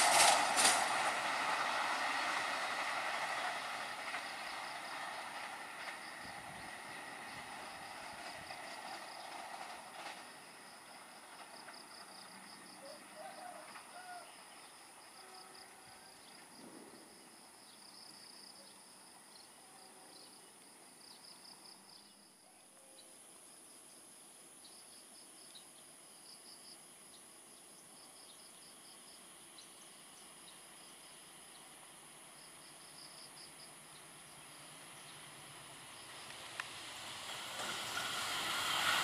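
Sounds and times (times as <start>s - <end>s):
diesel locomotive rumble: 0.0s - 21.9s, 29.1s - 39.0s
background hiss: 0.0s - 39.0s
insects chirping trills: 1.2s - 39.0s.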